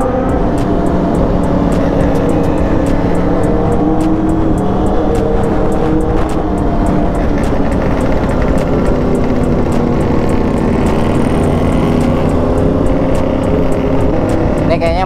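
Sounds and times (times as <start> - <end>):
motorcycle engine running: 0.0 - 15.0
wind rushing over helmet microphone: 0.0 - 15.0.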